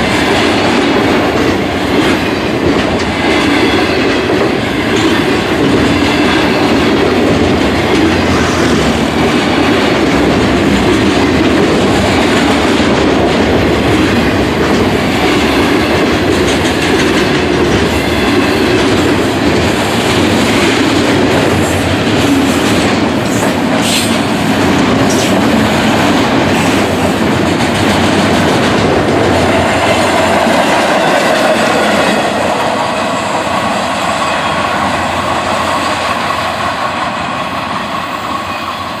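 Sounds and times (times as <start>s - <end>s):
wheels clattering over rail joints: 0.0s - 38.6s
train cars rumbling past: 0.0s - 39.0s.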